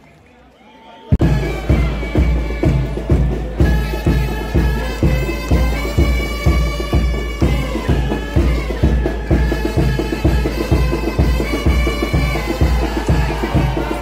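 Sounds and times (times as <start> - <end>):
drum beating steadily: 1.2 - 14.0
marching band playing a march: 1.2 - 14.0.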